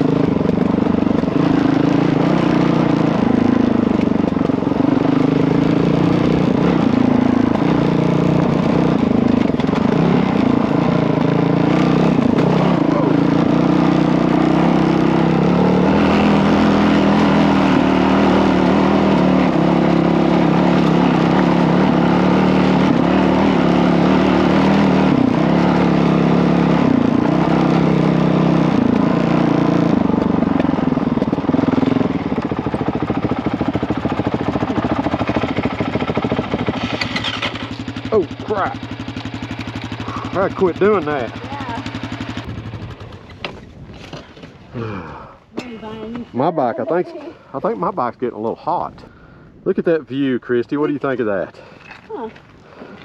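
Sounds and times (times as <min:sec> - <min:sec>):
dirt bike engine revving: 0:00.0 - 0:43.6.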